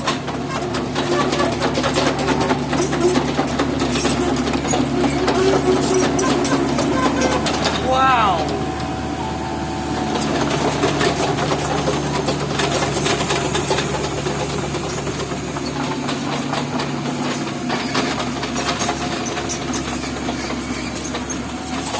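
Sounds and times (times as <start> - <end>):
scattered clicks and knocks: 0.0 - 7.9, 10.1 - 21.9
excavator engine running: 0.0 - 21.9.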